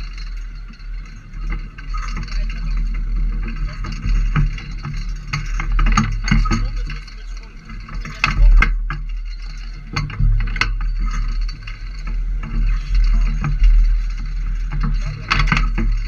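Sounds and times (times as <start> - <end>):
sharp clicks and rattles: 0.0 - 16.0.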